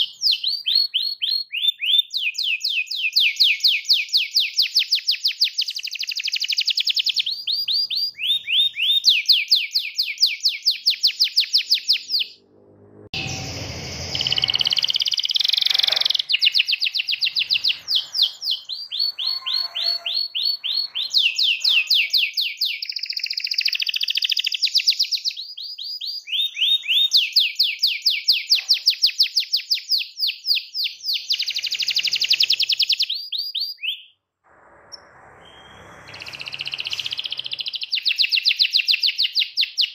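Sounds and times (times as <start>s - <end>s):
canary singing trills: 0.0s - 12.4s, 13.1s - 34.2s, 34.9s - 39.9s.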